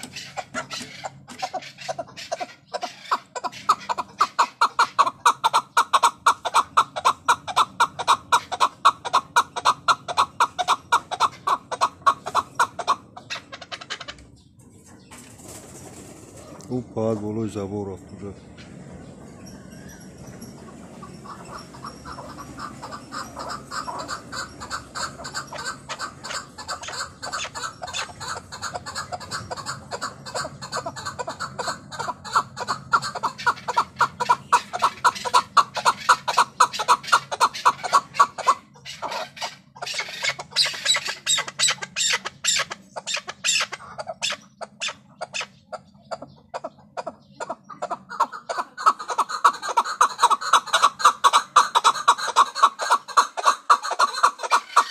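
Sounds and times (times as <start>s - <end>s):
partridge calling: 0.0s - 54.9s.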